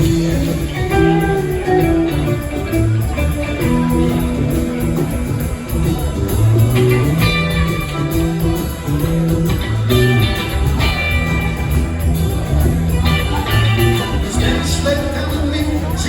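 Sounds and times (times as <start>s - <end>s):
bass line: 0.0s - 16.0s
electric guitar lines: 0.0s - 16.0s.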